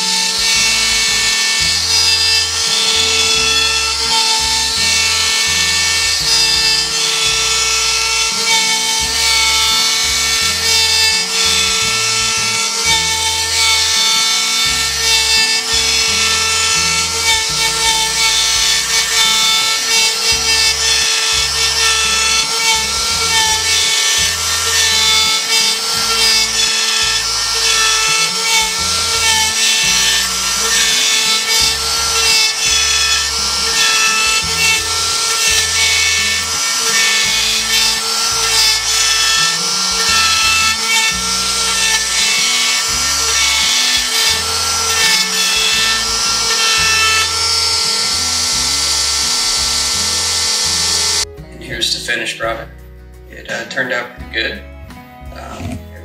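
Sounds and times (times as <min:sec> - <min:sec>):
bit rasping into wood: 0:00.0 - 0:51.3
router spindle whine: 0:00.0 - 0:51.3
background music with bass: 0:00.0 - 0:56.0.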